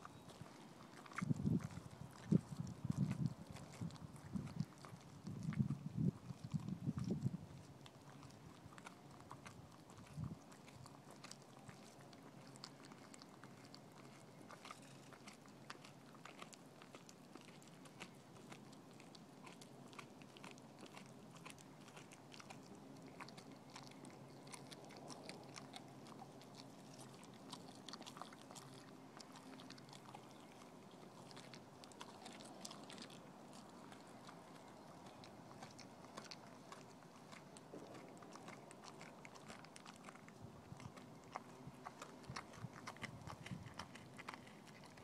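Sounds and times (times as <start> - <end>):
dog chewing raw meat: 0.0 - 45.0.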